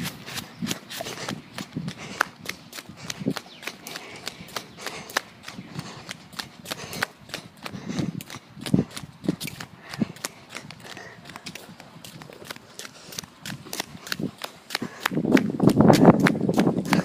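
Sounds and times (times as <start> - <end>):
running footsteps: 0.0 - 17.0.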